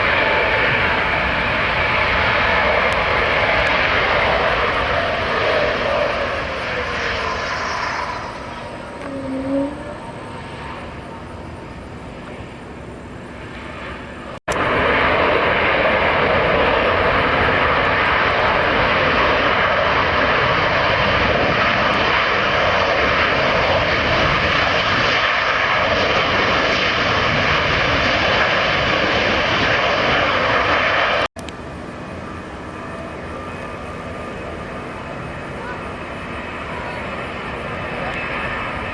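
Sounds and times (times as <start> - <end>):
jet airliner engines: 0.0 - 38.9.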